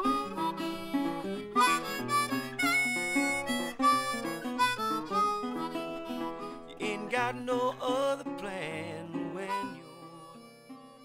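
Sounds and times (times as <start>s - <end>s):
guitar accompaniment: 0.0s - 11.0s
harmonica melody: 0.0s - 11.0s.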